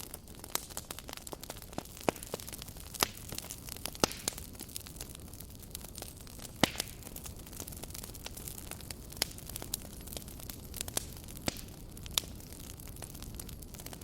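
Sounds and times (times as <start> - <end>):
burning wood popping and crackling: 0.0 - 14.0
campfire low rumble: 0.0 - 14.0.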